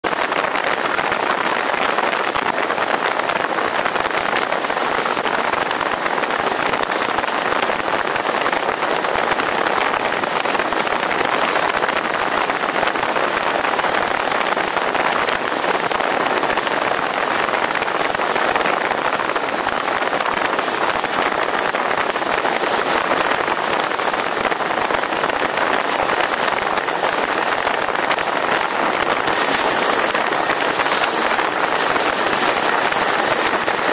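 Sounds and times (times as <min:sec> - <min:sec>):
boat wake churning: 0:00.0 - 0:33.9
wind buffeting microphone: 0:00.0 - 0:33.9.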